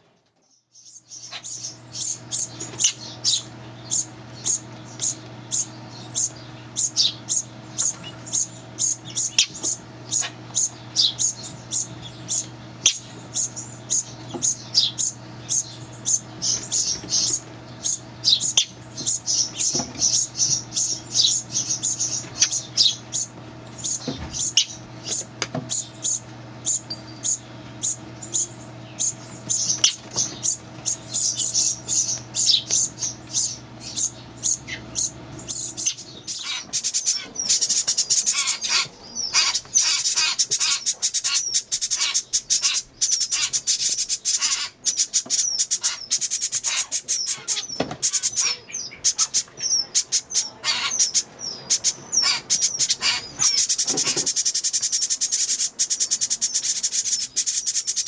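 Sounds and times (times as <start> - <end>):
baby birds chirping for food: 0.3 - 58.0.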